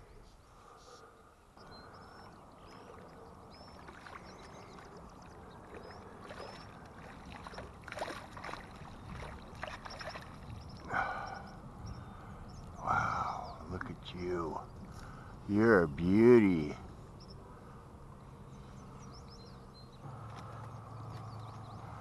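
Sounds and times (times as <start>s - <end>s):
water lapping around boat: 0.1s - 22.0s.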